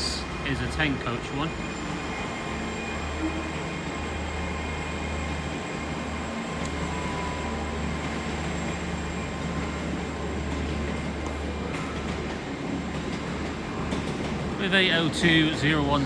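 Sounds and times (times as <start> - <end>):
train diesel engine hum: 0.0 - 16.0
train rolling noise: 0.0 - 16.0.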